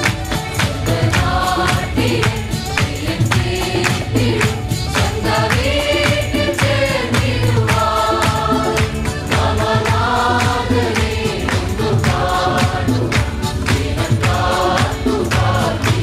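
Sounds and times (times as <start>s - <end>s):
sharp percussion strikes: 0.0s - 16.0s
choir of women singing a hymn: 0.6s - 16.0s.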